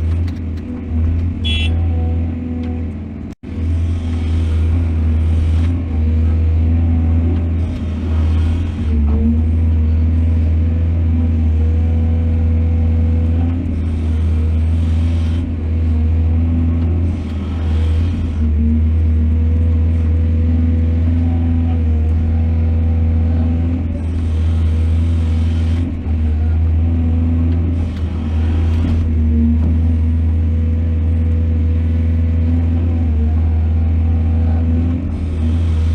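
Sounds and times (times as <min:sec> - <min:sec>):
diesel engine under load: 0:00.0 - 0:35.9.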